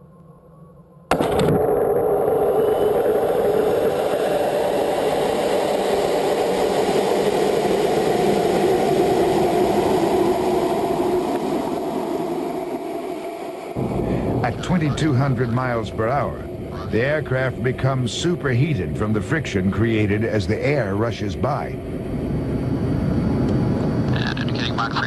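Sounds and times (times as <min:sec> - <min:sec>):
loud engine roar: 0:02.5 - 0:24.1.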